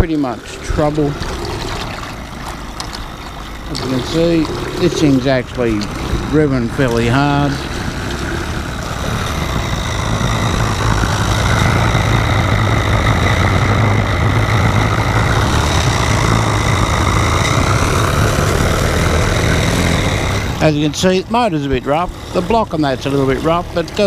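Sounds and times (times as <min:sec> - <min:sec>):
propeller churning water: 0:00.0 - 0:24.0
steam engine running: 0:00.0 - 0:24.0.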